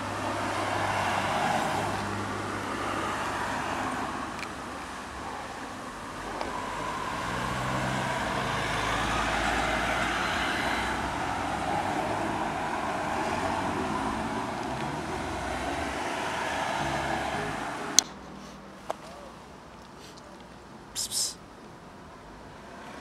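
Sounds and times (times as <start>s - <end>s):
vehicle engine humming: 0.0s - 21.4s.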